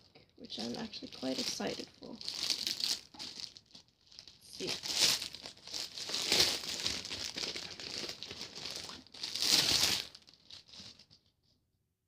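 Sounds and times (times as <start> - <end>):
wrapping crinkling and rustling: 0.0 - 11.3.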